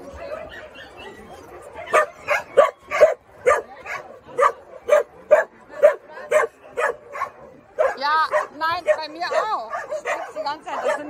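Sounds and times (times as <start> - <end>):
young dog barking: 0.1 - 11.0.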